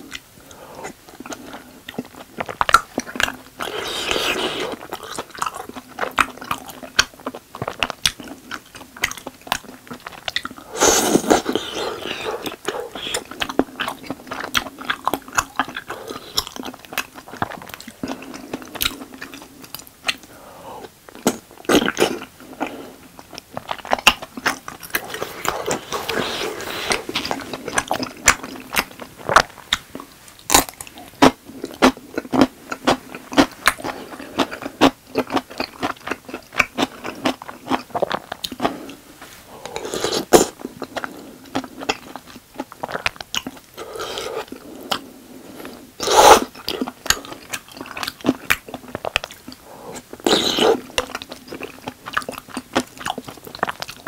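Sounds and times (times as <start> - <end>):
chewing with wet mouth clicks: 0.0 - 10.6, 11.2 - 20.3, 21.1 - 39.0, 39.7 - 45.1, 46.0 - 54.0.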